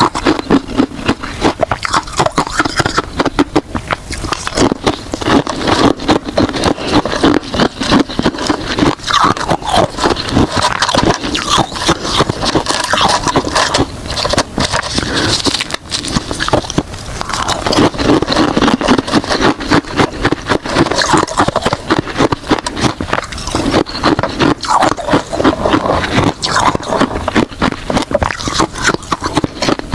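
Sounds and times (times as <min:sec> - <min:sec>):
ice being bitten and crunched: 0:00.0 - 0:29.9.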